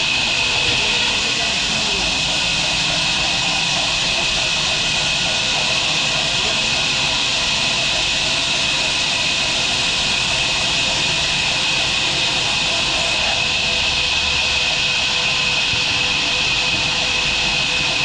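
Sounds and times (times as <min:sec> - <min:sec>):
sawmill machinery hissing: 0:00.0 - 0:18.0.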